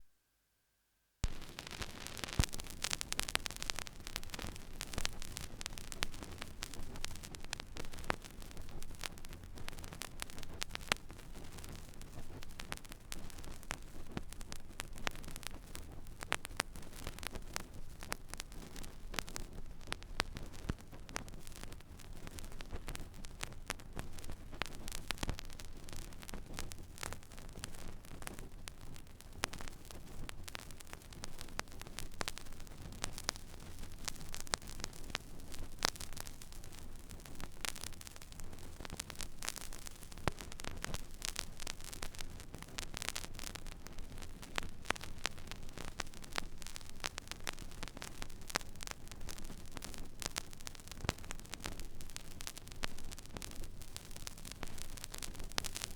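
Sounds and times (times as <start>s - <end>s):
vinyl surface noise with crackles: 1.2s - 55.9s.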